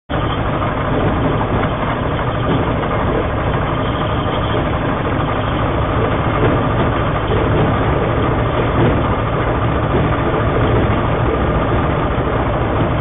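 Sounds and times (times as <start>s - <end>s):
aircraft piston engine and propeller: 0.1s - 13.0s.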